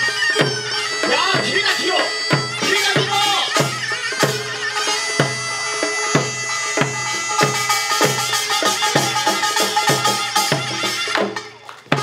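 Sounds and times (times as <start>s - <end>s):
drum strokes: 0.0s - 12.0s
shrill reed wind instrument: 0.0s - 12.0s.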